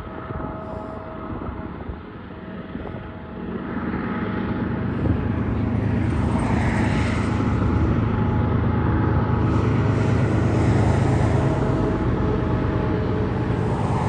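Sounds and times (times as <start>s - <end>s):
diesel locomotive engines droning: 0.0s - 14.0s.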